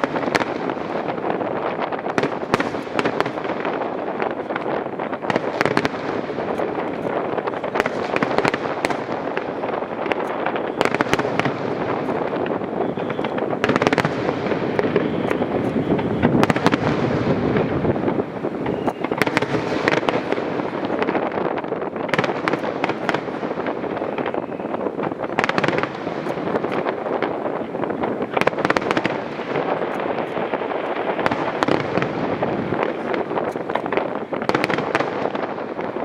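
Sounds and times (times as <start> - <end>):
fireworks bangs and crackling: 0.0 - 36.0
rumble of explosions: 0.0 - 36.0.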